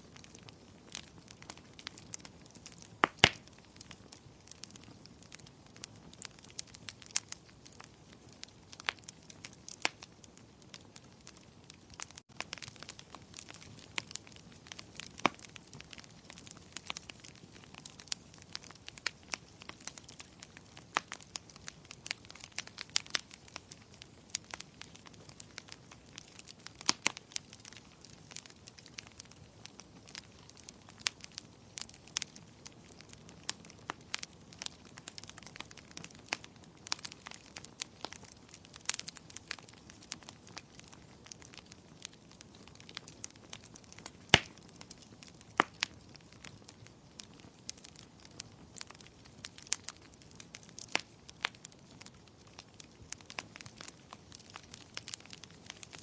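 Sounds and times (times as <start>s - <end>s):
wood fire crackling: 0.0s - 56.0s
sharp pops of fire: 0.2s - 56.0s.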